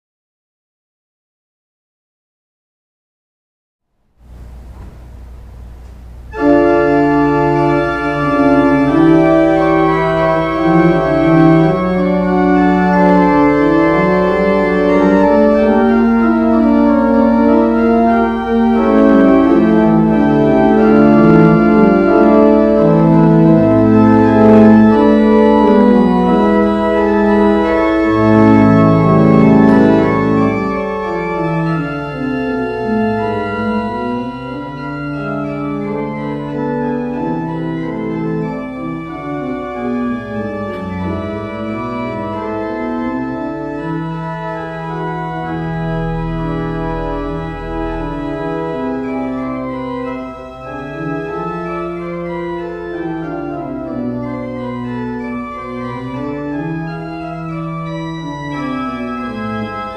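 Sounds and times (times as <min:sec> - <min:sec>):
church organ playing chords: 0:04.2 - 0:59.9.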